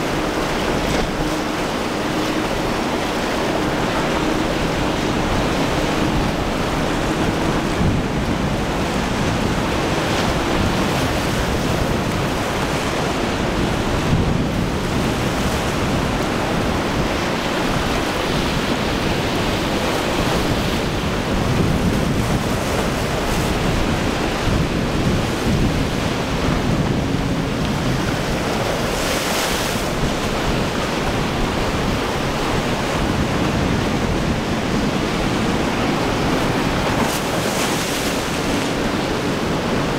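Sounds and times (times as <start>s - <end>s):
outboard motor drone: 0.0s - 39.9s
surf and breaking waves: 0.0s - 39.9s
wind blowing on microphone: 0.0s - 39.9s.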